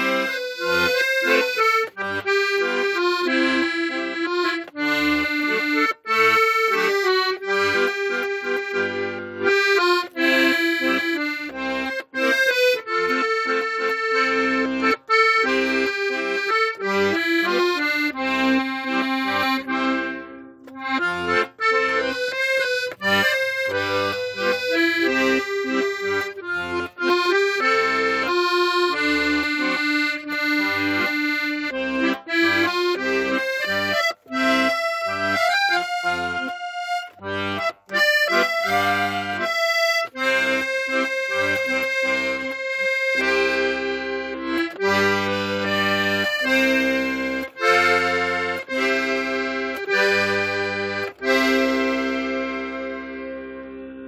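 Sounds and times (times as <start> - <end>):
accordion playing a melody: 0.0 - 54.0.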